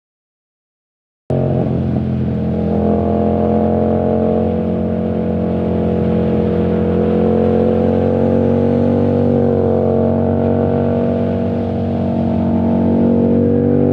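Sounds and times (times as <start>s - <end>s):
motorcycle engine running: 1.3s - 13.9s.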